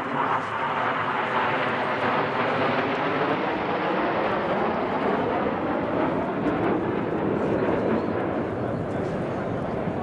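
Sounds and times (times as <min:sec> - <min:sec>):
aircraft flying past: 0:00.0 - 0:10.0.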